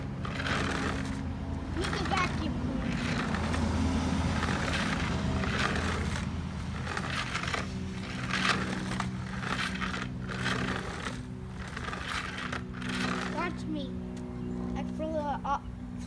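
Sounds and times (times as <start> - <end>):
carpet cleaner scraping on concrete: 0.0 - 15.3
steady low hum: 0.0 - 16.0.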